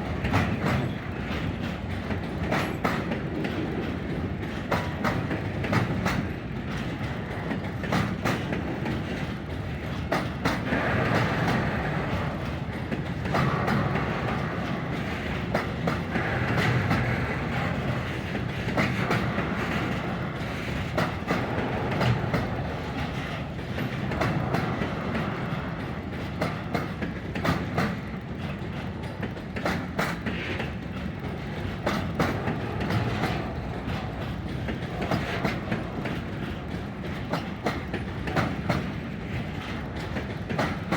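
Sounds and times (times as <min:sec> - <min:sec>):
freight train rumbling past: 0:00.0 - 0:40.9
wheels clacking over rail joints: 0:00.0 - 0:40.9.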